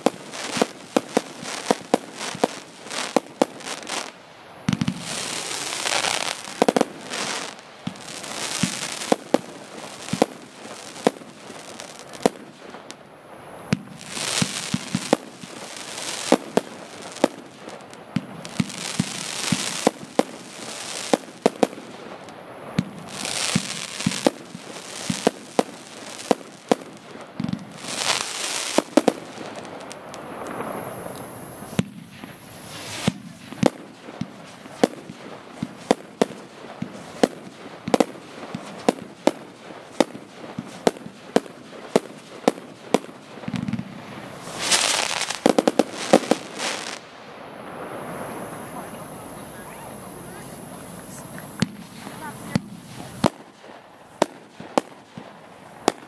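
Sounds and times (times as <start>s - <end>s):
fireworks bangs: 0.0s - 56.0s
fireworks hissing: 0.0s - 56.0s.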